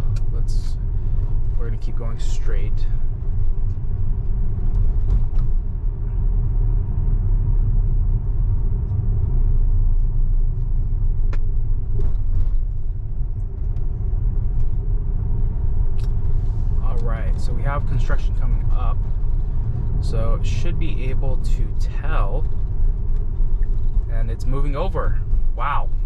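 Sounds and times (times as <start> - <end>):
tyre and road noise in car: 0.0 - 26.0.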